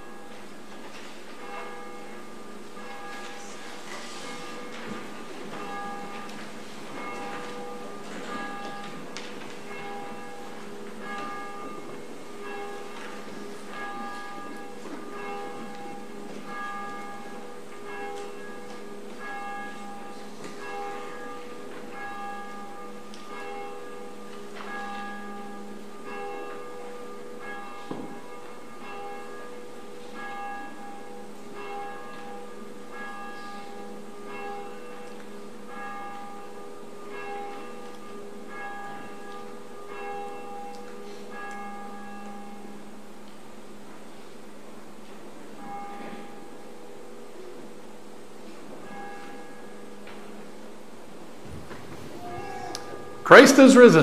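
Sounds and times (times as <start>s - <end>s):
church bell ringing: 0.0s - 54.0s.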